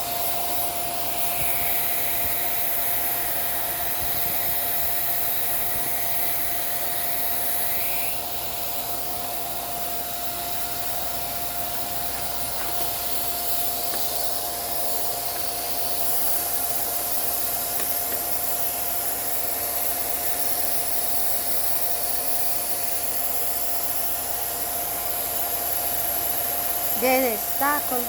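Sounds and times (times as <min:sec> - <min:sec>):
small vacuum cleaner whining: 0:00.0 - 0:28.0.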